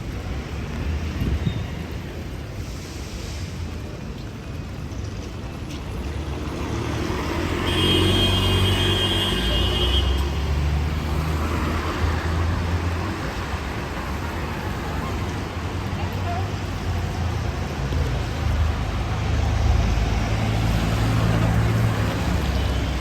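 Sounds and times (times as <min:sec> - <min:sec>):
hiss of traffic on wet road: 0:00.0 - 0:23.0.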